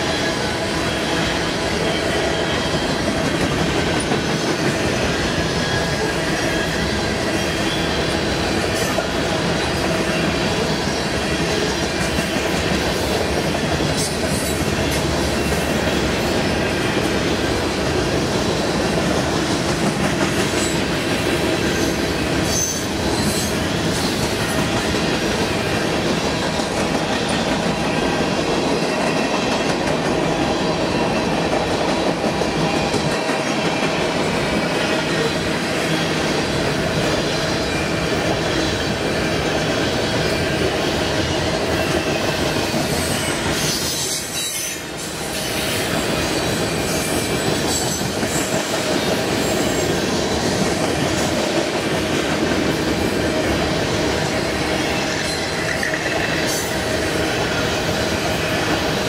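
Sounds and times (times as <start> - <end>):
steel wheels rumbling on rails: 0.0 - 59.0.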